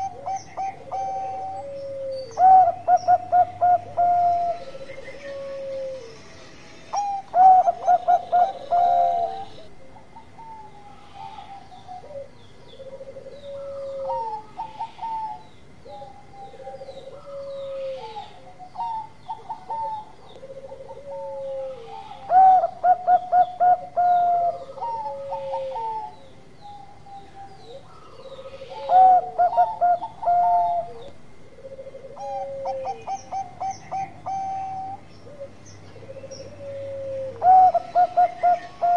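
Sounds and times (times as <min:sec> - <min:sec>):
dove cooing: 0:00.0 - 0:06.3, 0:06.9 - 0:38.9.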